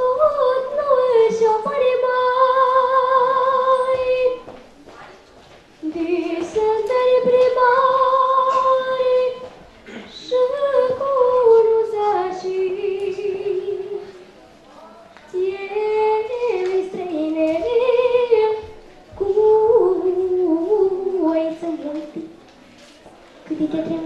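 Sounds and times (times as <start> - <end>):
girl singing unaccompanied: 0.0 - 4.6, 5.8 - 14.3, 15.3 - 22.4, 23.4 - 24.0.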